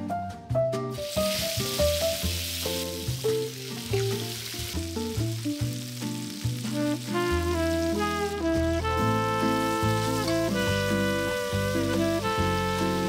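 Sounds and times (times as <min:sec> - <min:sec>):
light background music: 0:00.0 - 0:13.0
chicken sizzling in hot oil: 0:00.9 - 0:13.0.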